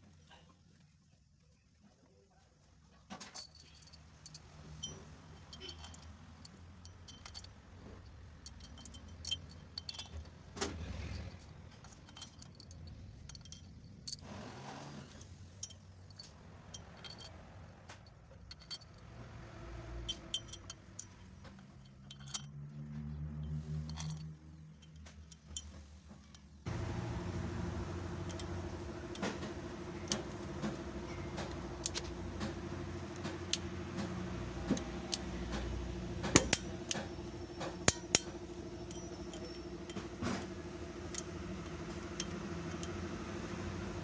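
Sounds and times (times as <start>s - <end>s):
small metal objects clinking: 3.1s - 14.3s, 15.1s - 19.1s, 19.9s - 43.2s
low vehicle rumble: 3.5s - 44.0s.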